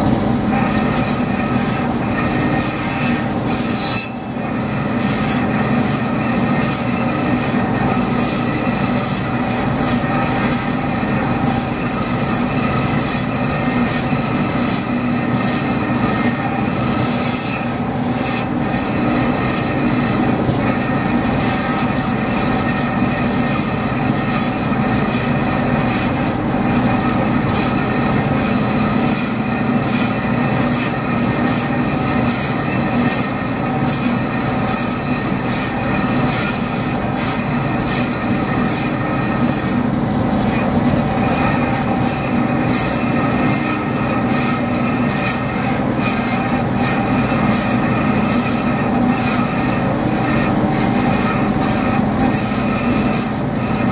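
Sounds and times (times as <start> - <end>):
bandsaw cutting metal: 0.0 - 53.9.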